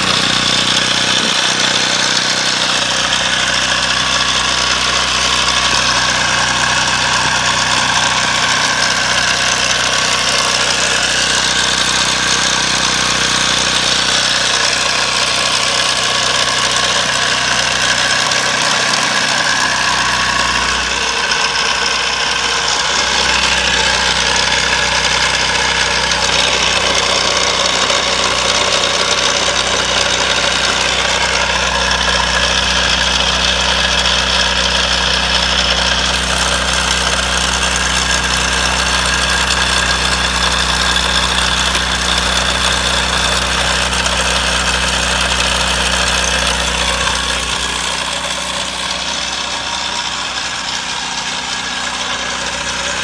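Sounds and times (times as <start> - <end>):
generator engine idling: 0.0 - 53.0.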